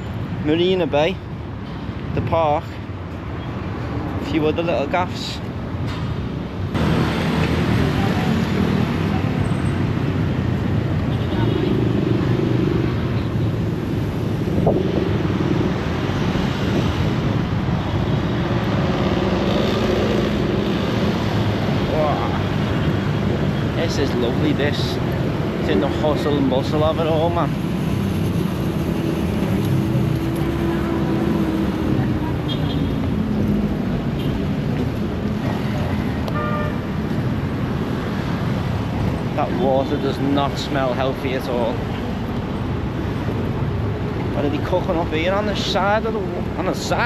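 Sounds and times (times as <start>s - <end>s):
vehicle engines in street traffic: 0.0s - 47.0s.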